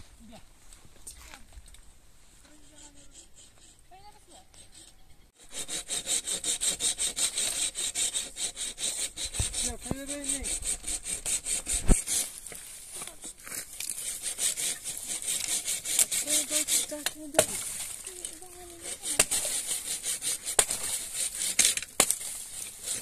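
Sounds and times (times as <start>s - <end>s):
hand saw cutting firewood: 2.4s - 23.0s.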